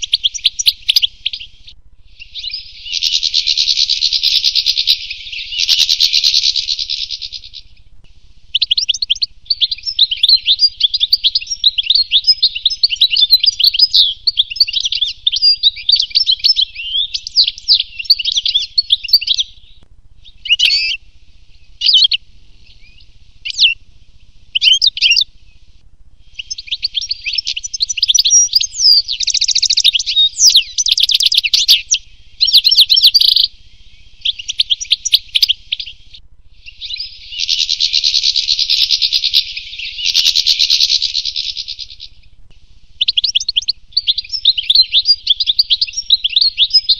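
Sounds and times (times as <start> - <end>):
goldfinch twittering song: 0.0 - 7.8, 8.5 - 21.0, 21.6 - 23.8, 24.5 - 25.6, 26.3 - 42.2, 43.0 - 46.9
short bird calls: 0.0 - 7.9, 8.5 - 23.8, 24.5 - 46.9.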